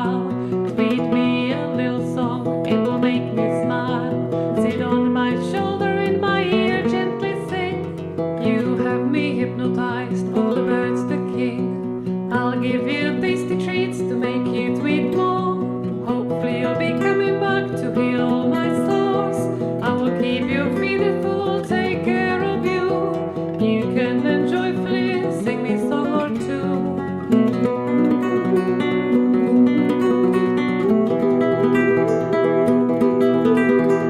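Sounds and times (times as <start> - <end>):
acoustic guitar folk song: 0.0 - 34.0.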